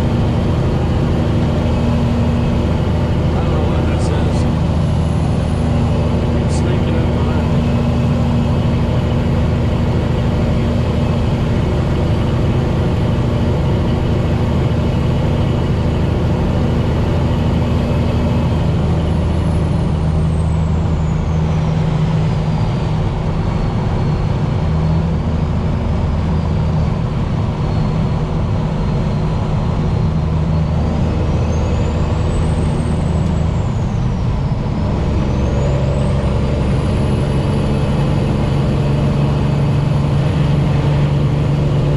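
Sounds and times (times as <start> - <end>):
truck diesel engine under load: 0.0 - 41.9.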